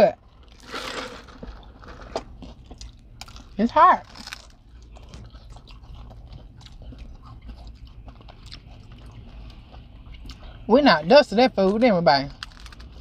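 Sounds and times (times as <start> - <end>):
crunchy pastry chewing: 0.2 - 10.7, 11.6 - 13.0.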